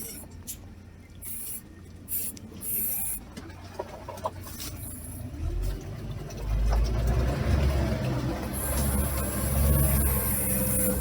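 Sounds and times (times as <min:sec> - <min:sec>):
off-road vehicle engine rumbling: 0:00.0 - 0:11.0.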